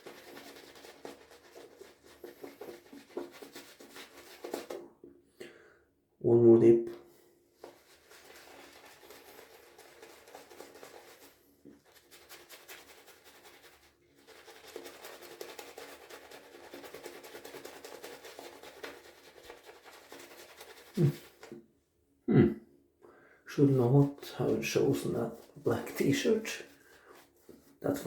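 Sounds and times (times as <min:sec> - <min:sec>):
shaving brush swishing in lather: 0:00.0 - 0:04.8, 0:07.6 - 0:21.6, 0:23.5 - 0:28.0.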